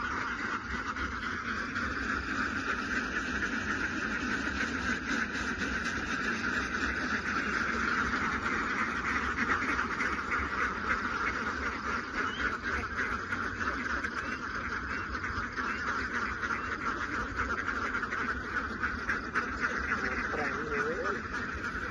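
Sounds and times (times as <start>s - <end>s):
flock of ducks quacking: 0.0s - 21.9s.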